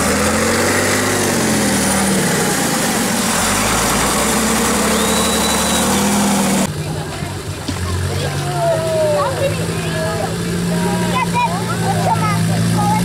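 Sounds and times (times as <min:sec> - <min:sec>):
tractor engine revving: 0:00.0 - 0:13.0.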